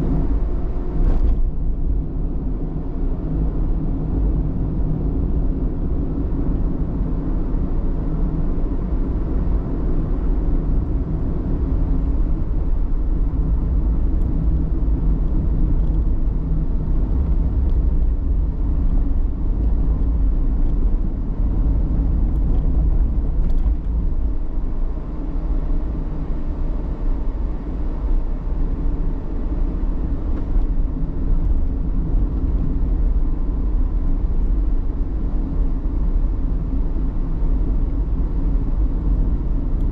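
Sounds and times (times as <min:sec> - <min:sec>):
road vehicle driving: 0:00.0 - 0:39.9.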